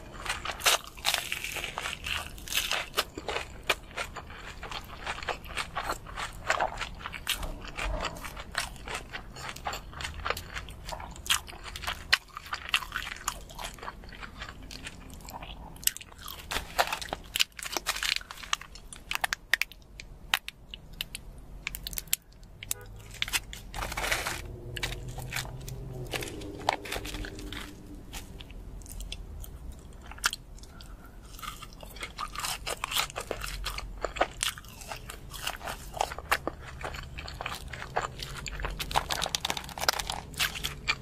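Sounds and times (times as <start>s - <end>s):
crunchy chewing of fried food: 0.0s - 41.0s.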